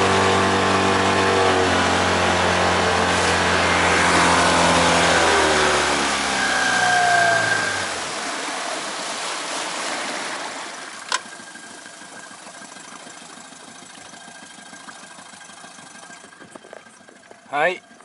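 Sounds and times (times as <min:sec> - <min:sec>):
outboard motor idling: 0:00.0 - 0:18.0
water washing around hull: 0:00.0 - 0:18.0.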